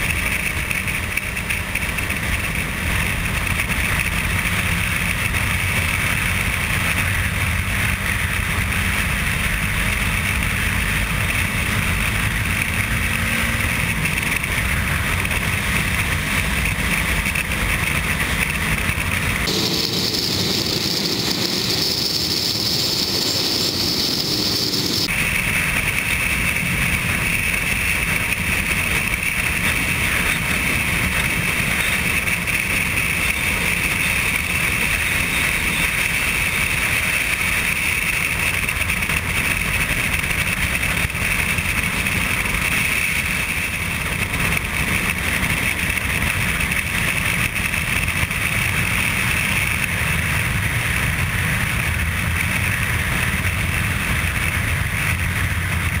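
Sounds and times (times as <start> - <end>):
motorcycle engine drone: 0.0 - 56.0
wind rushing over microphone: 2.1 - 56.0.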